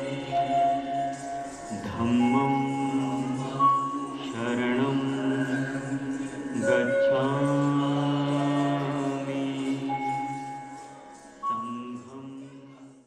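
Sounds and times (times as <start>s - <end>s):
devotional chant singing: 0.0s - 13.0s.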